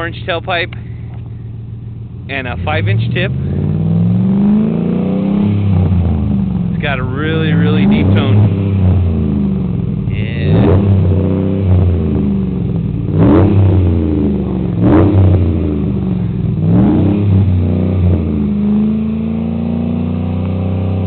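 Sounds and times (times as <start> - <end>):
deep engine idling and revving: 0.0 - 21.0.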